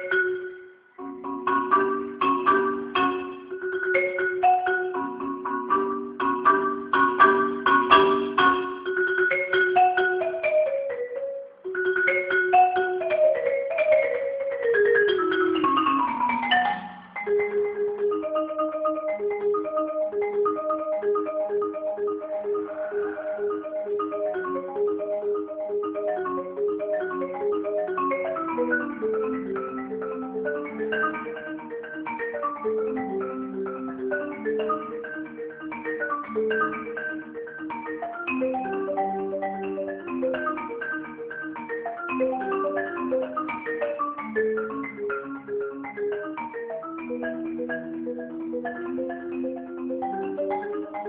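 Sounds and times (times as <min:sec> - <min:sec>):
marimba played with mallets: 0:00.0 - 0:51.0.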